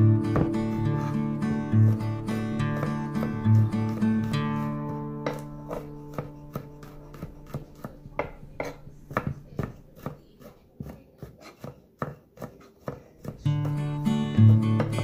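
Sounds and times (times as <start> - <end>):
knife mincing on wooden board: 0.1 - 15.0.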